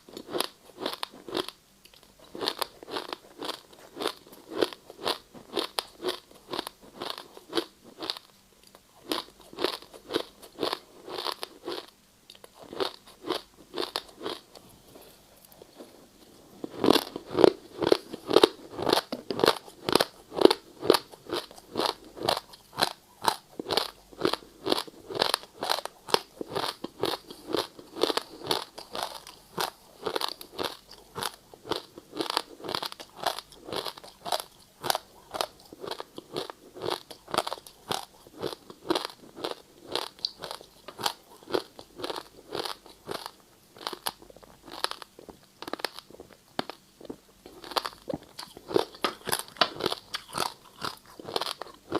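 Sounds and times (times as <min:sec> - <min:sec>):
ice being chewed: 0:00.1 - 0:15.7, 0:16.6 - 0:51.9.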